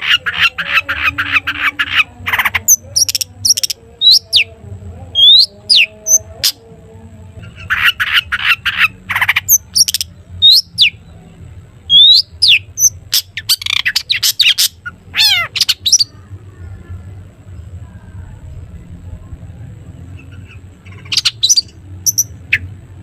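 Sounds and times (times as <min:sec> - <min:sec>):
low hum: 0:00.0 - 0:23.0
shrike singing harsh rasping notes: 0:00.0 - 0:23.0.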